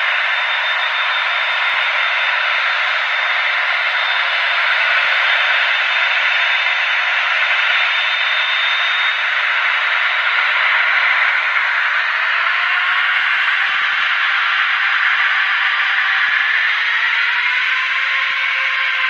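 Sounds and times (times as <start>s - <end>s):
thin high whine: 0.0s - 16.0s.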